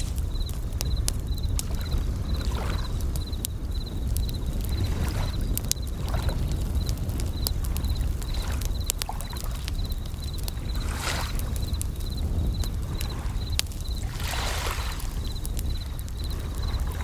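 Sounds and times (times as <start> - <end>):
waves washing: 0.0 - 9.8, 10.6 - 17.0
campfire crackling with pops: 0.0 - 17.0
crickets chirping: 0.0 - 17.0.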